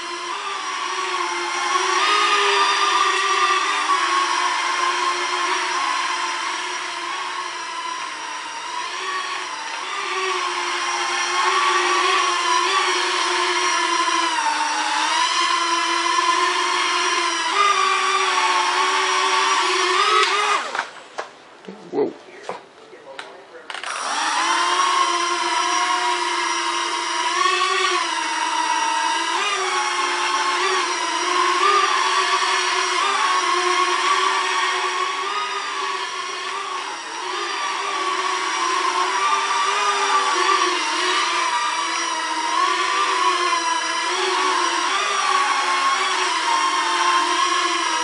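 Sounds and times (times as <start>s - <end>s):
drone motors whining: 0.0s - 21.0s, 23.7s - 48.0s.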